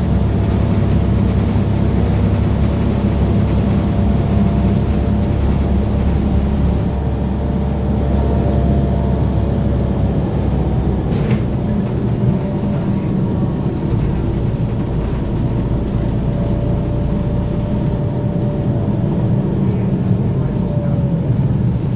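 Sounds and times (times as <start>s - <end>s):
low road rumble: 0.0s - 21.9s.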